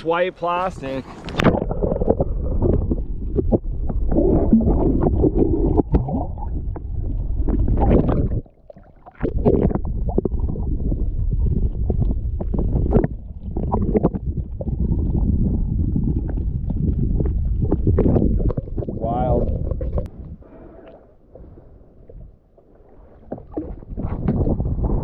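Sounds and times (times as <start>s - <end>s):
muffled underwater gurgling: 0.8s - 20.8s.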